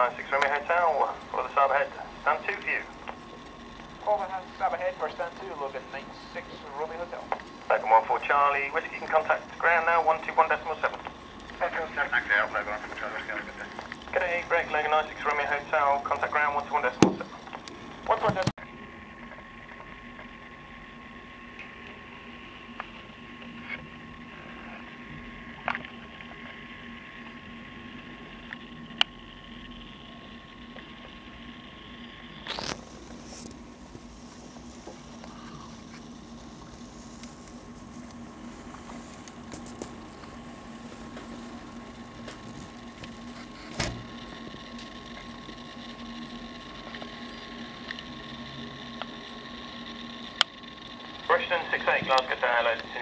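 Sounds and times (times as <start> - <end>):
faint electrical hum: 0.0 - 53.0.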